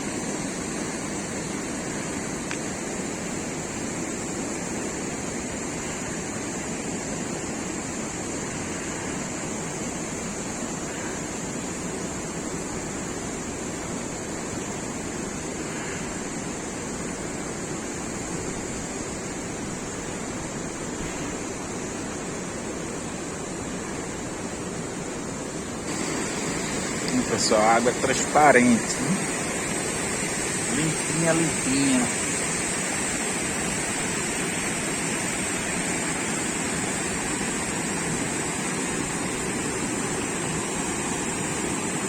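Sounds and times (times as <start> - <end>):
river water rushing: 0.0 - 42.0
steady high hiss: 0.0 - 42.0.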